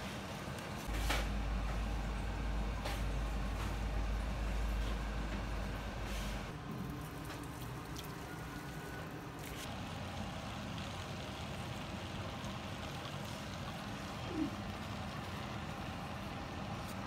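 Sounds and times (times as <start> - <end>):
water boiling in a pot: 0.0 - 17.0.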